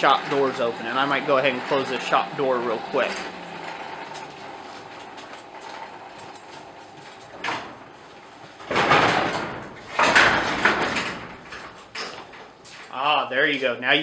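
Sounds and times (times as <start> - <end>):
shop shutter rattling slide: 0.0 - 12.6.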